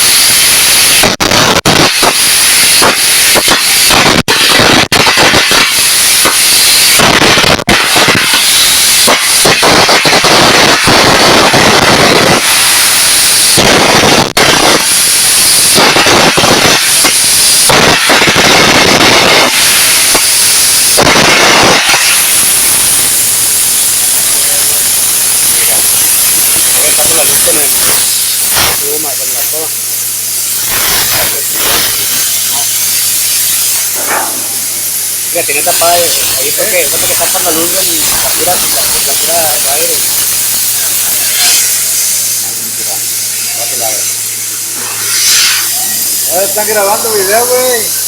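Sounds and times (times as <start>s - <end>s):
compressed air jet blowing: 0.0s - 48.0s
electric arc crackling hiss: 0.0s - 48.0s.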